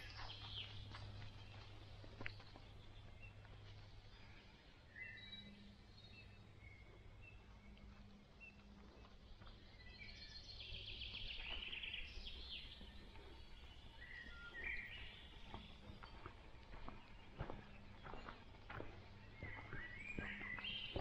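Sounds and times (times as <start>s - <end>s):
faint steady low hum: 0.0s - 21.0s
forest birds singing: 0.0s - 21.0s.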